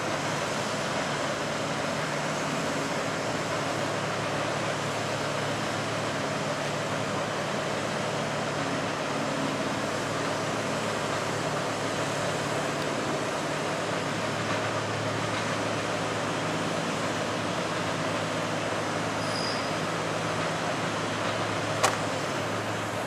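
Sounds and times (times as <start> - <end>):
diesel engine running: 0.0 - 23.0
machinery noise: 0.0 - 23.0.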